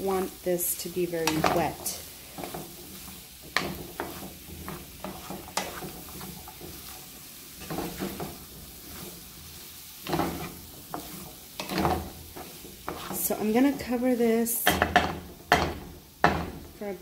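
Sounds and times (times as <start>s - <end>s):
food sizzling in frying pan: 0.0s - 17.0s
wooden spoon scraping pan: 0.1s - 16.9s.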